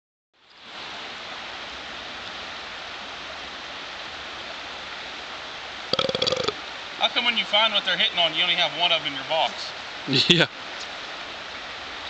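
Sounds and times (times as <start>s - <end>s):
stream water flowing: 0.4s - 12.0s.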